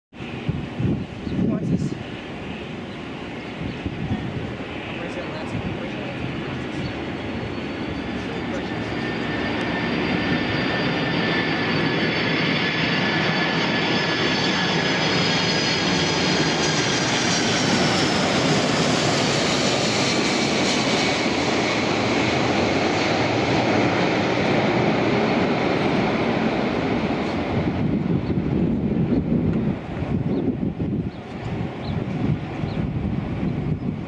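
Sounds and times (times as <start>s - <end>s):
jet airliner passing low: 0.1s - 34.0s.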